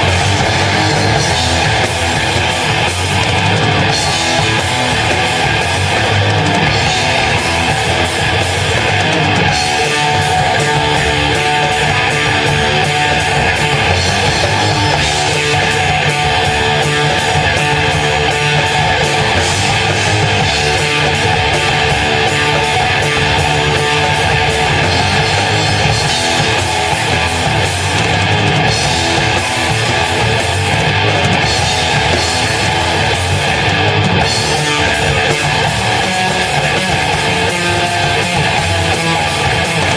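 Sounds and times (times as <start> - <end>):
heavy electric guitar: 0.0 - 39.9
rock band playing live: 0.0 - 39.9.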